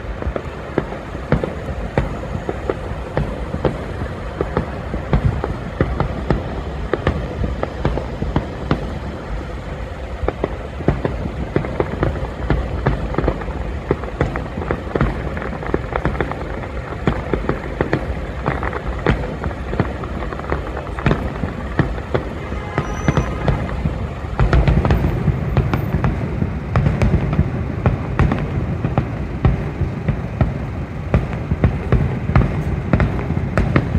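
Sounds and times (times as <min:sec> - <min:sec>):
fireworks bangs and pops: 0:00.0 - 0:33.9
street traffic rumble: 0:00.0 - 0:33.9.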